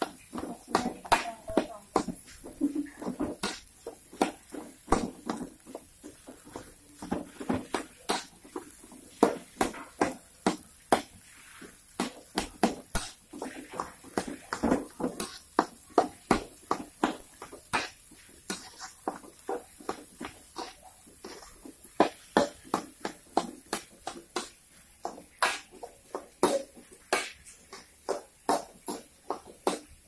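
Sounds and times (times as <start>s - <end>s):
spatula scraping steel wok: 0.0s - 24.6s.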